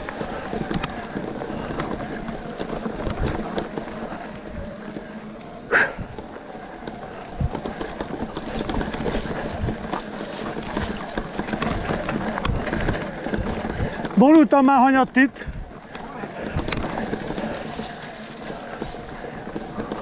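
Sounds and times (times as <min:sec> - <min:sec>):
bike rattling: 0:00.0 - 0:20.0
bike tyres crunching over stones: 0:00.0 - 0:20.0.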